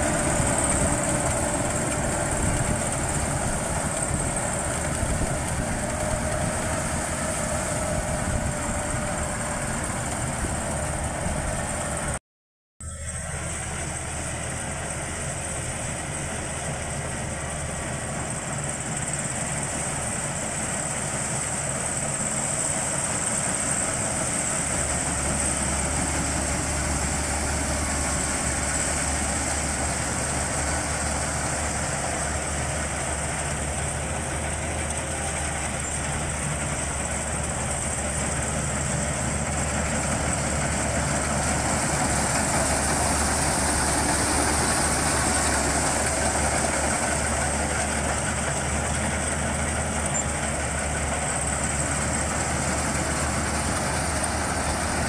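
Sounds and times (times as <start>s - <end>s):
combine harvester running: 0.0s - 12.2s, 12.8s - 55.0s.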